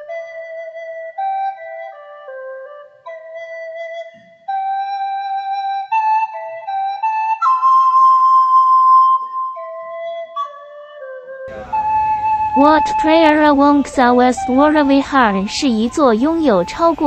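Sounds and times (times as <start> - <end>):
slow solo flute melody: 0.0 - 17.0.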